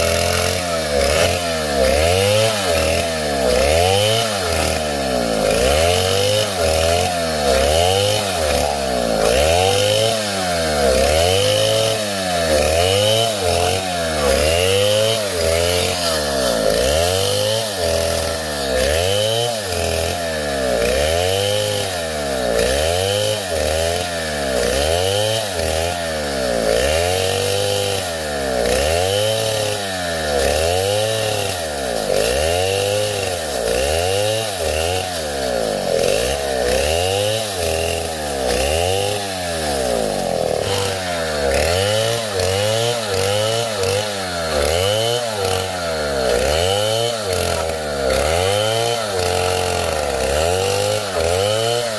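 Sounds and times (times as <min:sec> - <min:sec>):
two-stroke chainsaw running: 0:00.0 - 0:51.9.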